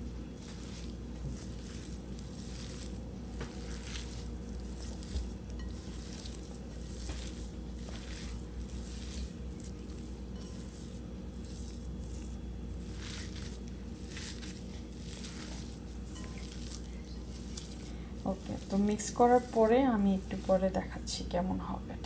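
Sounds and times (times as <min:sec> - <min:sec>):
hand kneading dough in bowl: 0:00.0 - 0:21.6.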